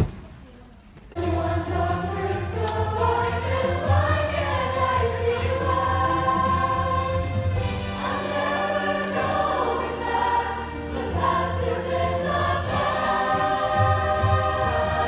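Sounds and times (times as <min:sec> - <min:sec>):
choir singing in parts: 0:01.2 - 0:15.0.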